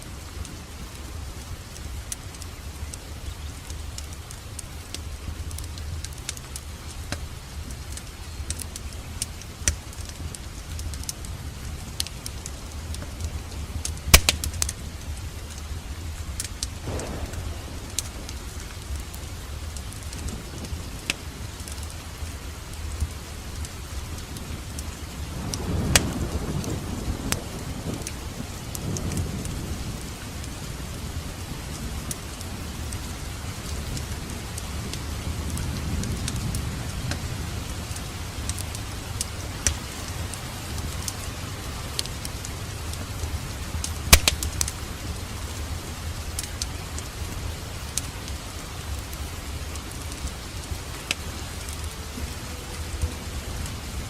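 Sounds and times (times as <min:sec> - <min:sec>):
low fire rumble: 0:00.0 - 0:54.0
wood fire pops and crackles: 0:00.2 - 0:30.6, 0:31.8 - 0:54.0.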